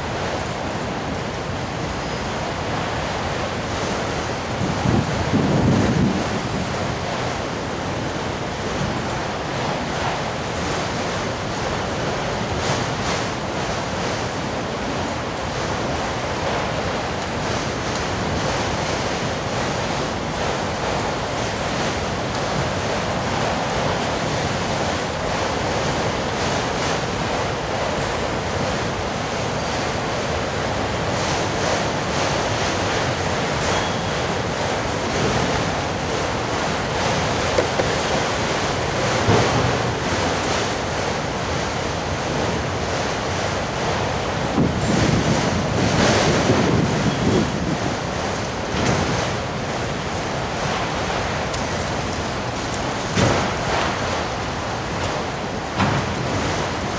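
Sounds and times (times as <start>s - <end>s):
steel wheels rolling on rail: 1.8s - 56.9s.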